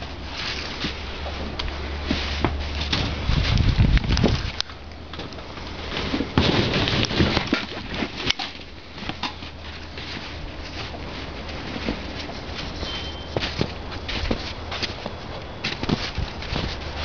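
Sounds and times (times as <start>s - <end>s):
handling plastic bodywork: 0.0s - 17.0s.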